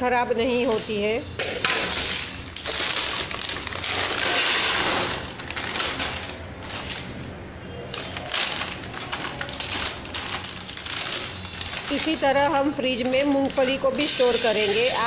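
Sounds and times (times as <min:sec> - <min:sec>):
plastic bag rustling: 0:00.4 - 0:15.0.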